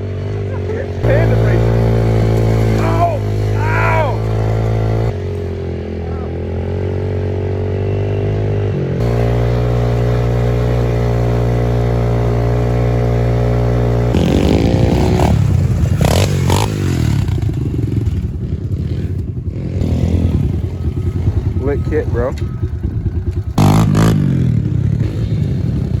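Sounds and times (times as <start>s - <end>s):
engine clatter: 0.0s - 6.3s, 9.0s - 26.0s
motorbike engine revving: 0.0s - 26.0s.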